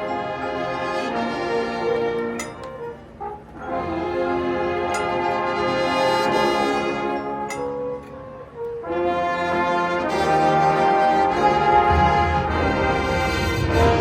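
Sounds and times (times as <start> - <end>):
marching band brass chords: 0.0 - 14.0.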